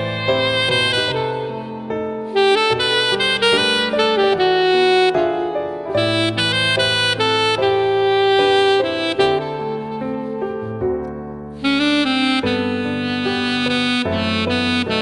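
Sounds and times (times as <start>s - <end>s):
recorded backing track: 0.0s - 15.0s
saxophone melody: 0.0s - 15.0s.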